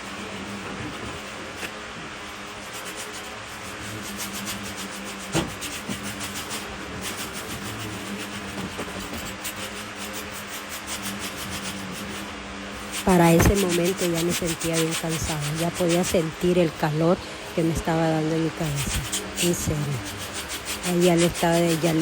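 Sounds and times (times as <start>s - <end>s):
rake scraping through dry leaves: 0.0s - 22.0s
steady low hum: 0.0s - 22.0s.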